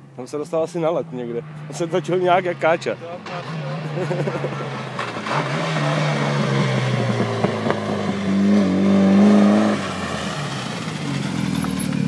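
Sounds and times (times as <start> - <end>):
car engine revving past: 1.0 - 12.0.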